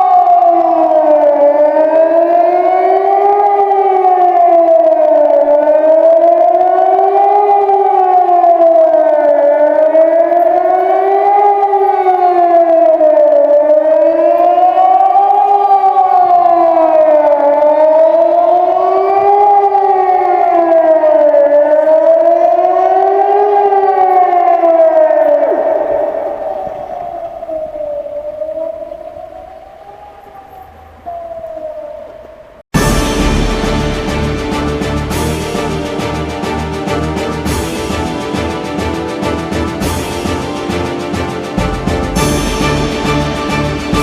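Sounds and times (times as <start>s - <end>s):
siren wailing: 0.0s - 44.0s.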